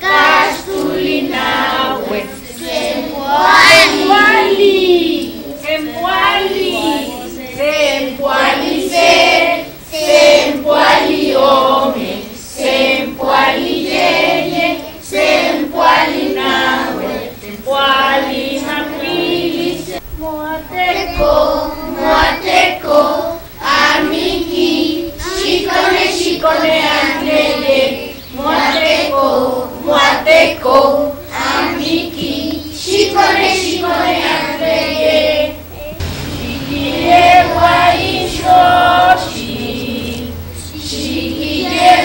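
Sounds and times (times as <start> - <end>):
children singing together: 0.0 - 42.0.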